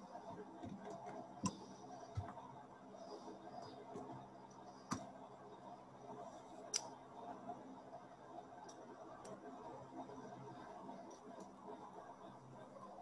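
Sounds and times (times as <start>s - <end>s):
low steady room hum: 0.0s - 13.0s.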